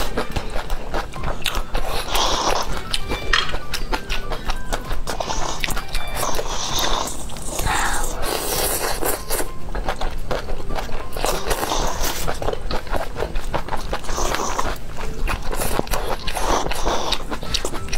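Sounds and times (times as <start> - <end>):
wet chewing and smacking: 0.0 - 17.9.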